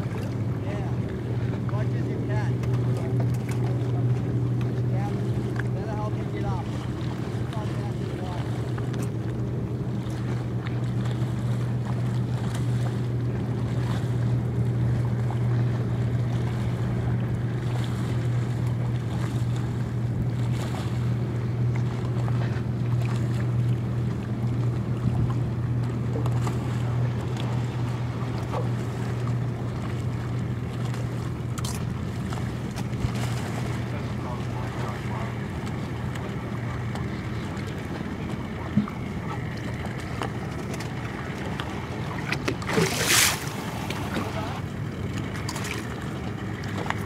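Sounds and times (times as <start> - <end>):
motorboat engine humming: 0.0 - 47.0.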